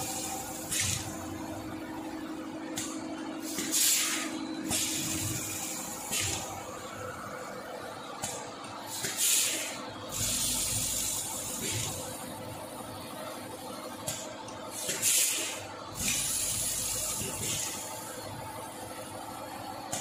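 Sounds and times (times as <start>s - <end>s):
packaging machine humming: 0.0s - 19.0s.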